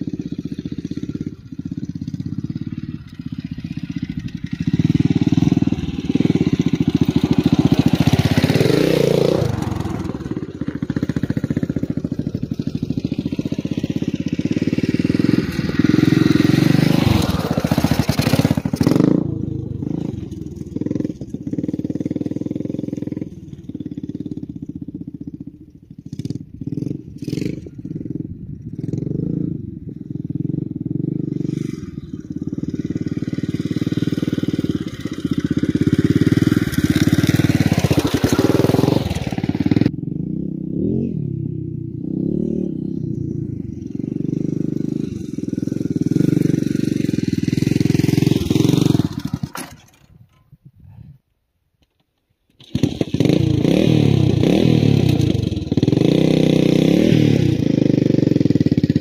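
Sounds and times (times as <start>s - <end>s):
dirt bike engine revving: 0.0s - 50.1s, 52.6s - 59.0s.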